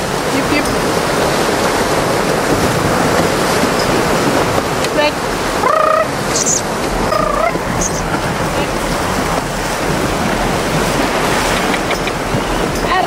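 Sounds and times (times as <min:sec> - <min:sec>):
surf rushing onto beach: 0:00.0 - 0:13.0
wind buffeting microphone: 0:00.0 - 0:13.0.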